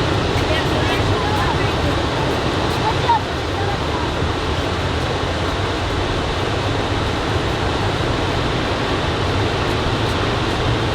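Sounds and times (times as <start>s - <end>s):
ocean surf washing onto beach: 0.0s - 10.9s.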